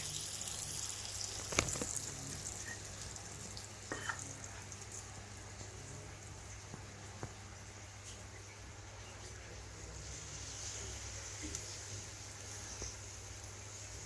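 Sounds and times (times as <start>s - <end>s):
waffle iron sizzling: 0.0s - 14.0s.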